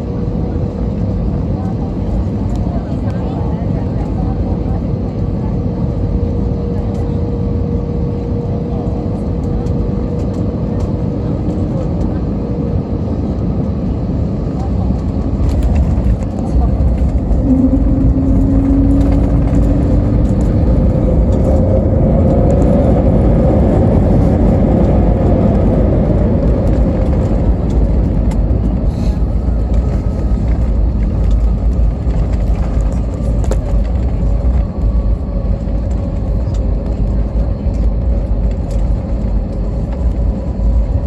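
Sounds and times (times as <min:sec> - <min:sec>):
jet engines whining: 0:00.0 - 0:41.0
runway rumble in cabin: 0:00.0 - 0:41.0.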